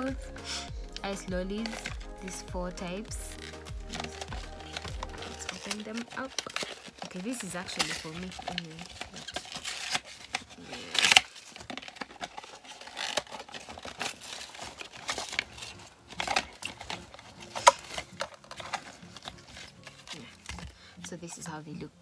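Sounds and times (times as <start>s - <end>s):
plastic packaging crinkling and tearing: 0.0s - 21.2s.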